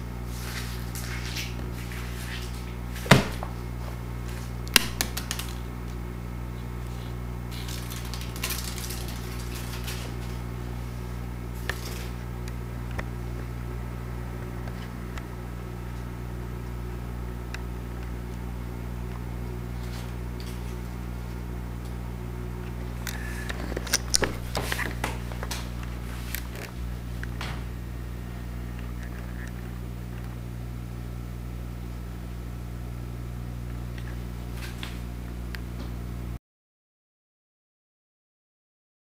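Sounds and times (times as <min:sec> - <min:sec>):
low electrical hum: 0:00.0 - 0:36.4.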